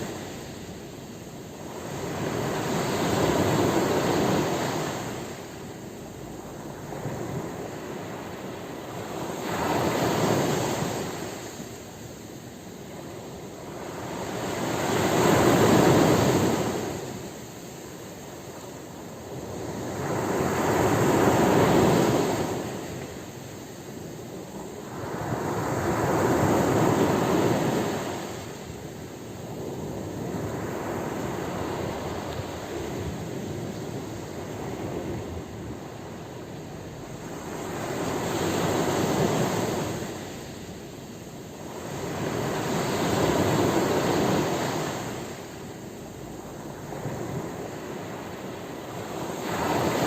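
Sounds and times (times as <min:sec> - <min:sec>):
sea waves washing: 0:00.0 - 0:50.0.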